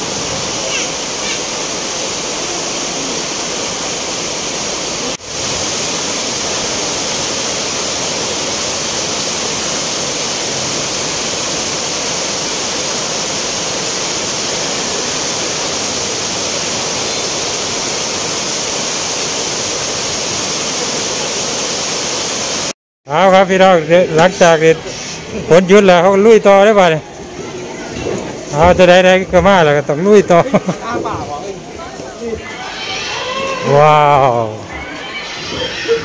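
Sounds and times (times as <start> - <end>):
heavy rain pouring: 0.0 - 22.8, 23.6 - 36.0.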